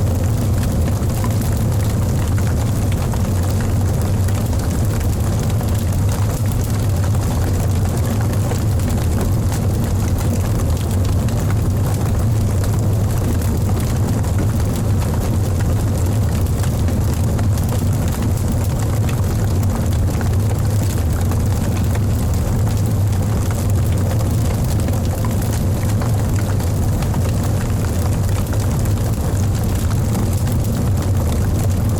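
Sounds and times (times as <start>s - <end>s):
fire crackling and popping: 0.0s - 31.9s
fire low rumble: 0.0s - 31.9s.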